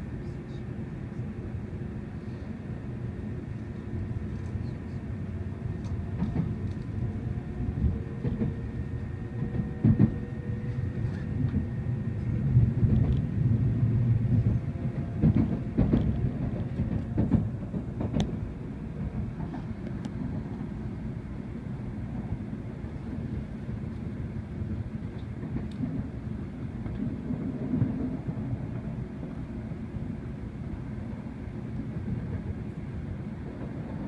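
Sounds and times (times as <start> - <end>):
train running rumble: 0.0 - 34.0.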